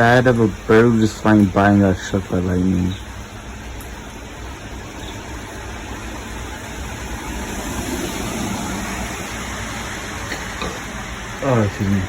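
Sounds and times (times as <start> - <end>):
rain falling steadily: 0.0 - 12.0
thunder rumble: 0.0 - 12.0.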